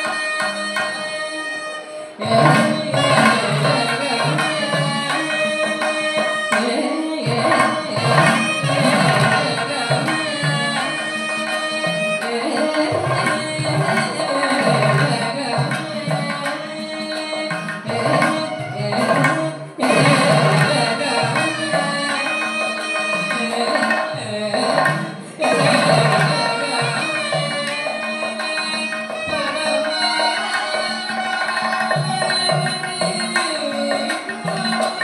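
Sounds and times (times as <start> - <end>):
drum beaten with stick and hand: 2.2 - 35.0.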